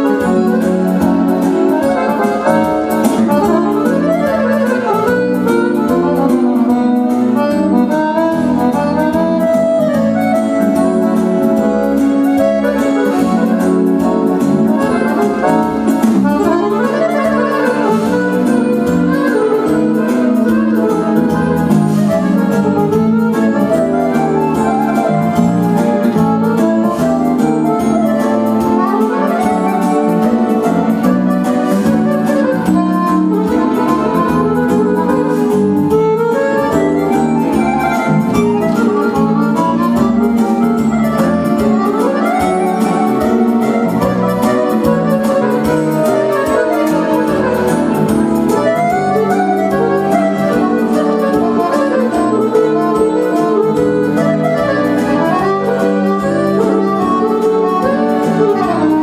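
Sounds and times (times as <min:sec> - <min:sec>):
electronic keyboard melody: 0:00.0 - 0:59.0
steady beat: 0:00.0 - 0:59.0.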